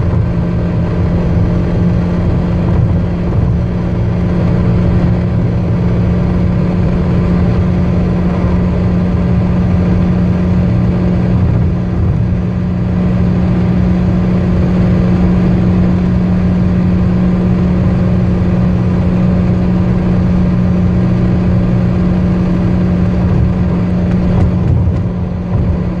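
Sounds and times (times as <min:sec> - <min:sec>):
car engine at high speed: 0:00.0 - 0:26.0
road noise rumble: 0:00.0 - 0:26.0.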